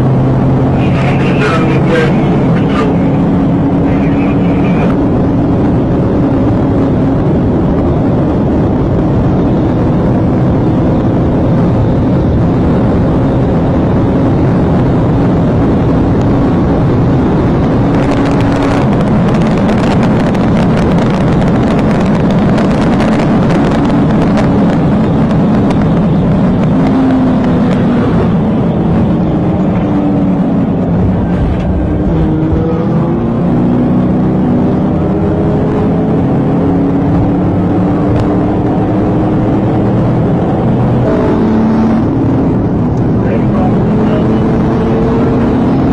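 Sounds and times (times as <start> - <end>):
road and wind noise: 0.0 - 45.9
vehicle engine running hard: 0.0 - 45.9.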